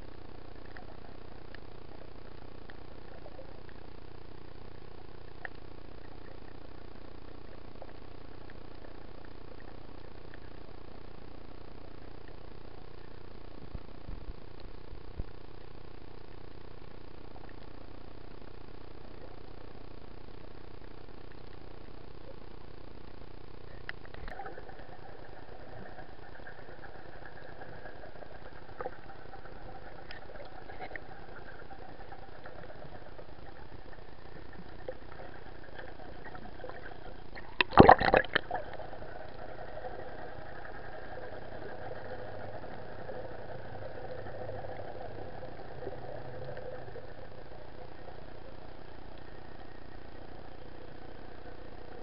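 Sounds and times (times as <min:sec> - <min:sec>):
underwater drone and hiss: 0:00.0 - 0:52.0
faint clicks: 0:00.2 - 0:04.1, 0:05.2 - 0:10.8, 0:11.9 - 0:16.4, 0:17.2 - 0:19.5, 0:20.2 - 0:52.0.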